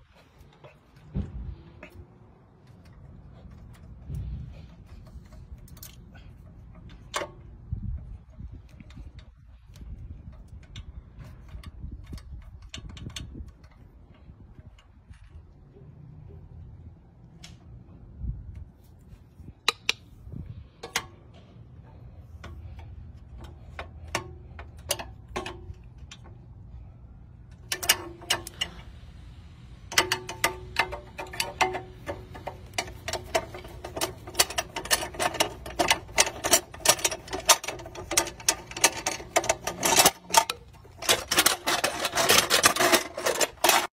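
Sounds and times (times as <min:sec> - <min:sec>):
metal wheel clamp clicks and rattles: 0:00.0 - 0:15.8, 0:19.6 - 0:43.9.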